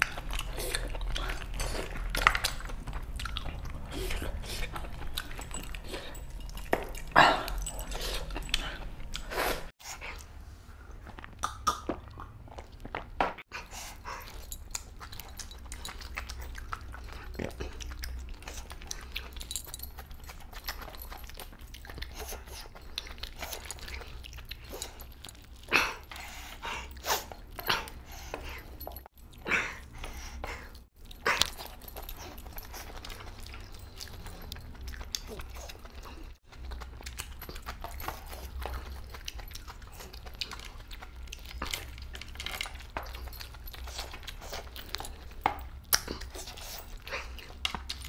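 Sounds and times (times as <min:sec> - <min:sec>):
person chewing and lip-smacking: 0:00.0 - 0:10.3, 0:10.9 - 0:48.0.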